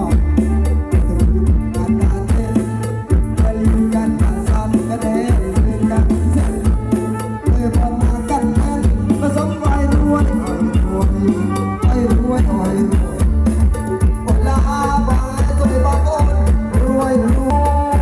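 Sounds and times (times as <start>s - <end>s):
loud music with heavy bass: 0.0s - 18.0s.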